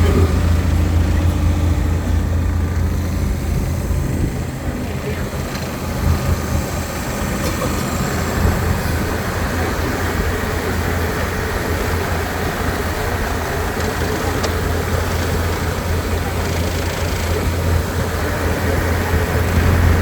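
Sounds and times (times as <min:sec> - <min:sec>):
boat engine droning: 0:00.0 - 0:20.0
rushing noise: 0:00.0 - 0:20.0.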